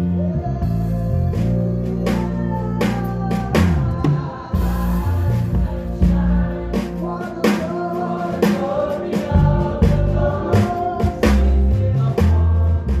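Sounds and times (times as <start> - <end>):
low bass line: 0.0 - 6.9, 9.4 - 13.0
gospel choir singing: 0.0 - 13.0
live band playing: 0.0 - 13.0
steady drum beat: 0.0 - 13.0.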